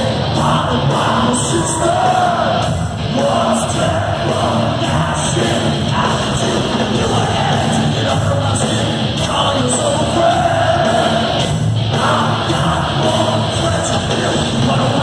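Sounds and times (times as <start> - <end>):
heavy metal band playing: 0.0 - 15.0
vocalist singing: 0.0 - 15.0.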